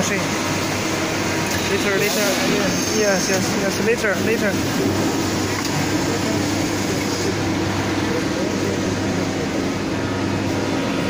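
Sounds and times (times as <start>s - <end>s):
production line machinery humming: 0.0s - 11.0s.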